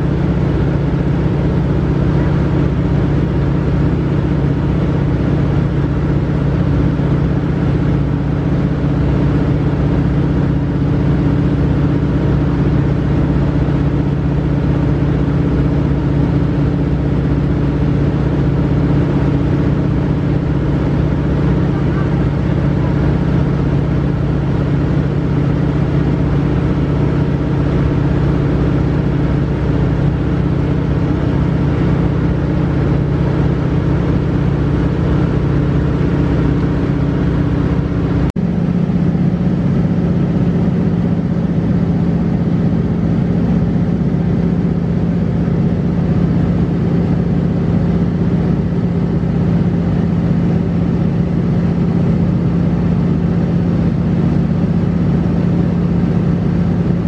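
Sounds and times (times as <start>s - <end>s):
plane engine drone in cabin: 0.0s - 57.0s.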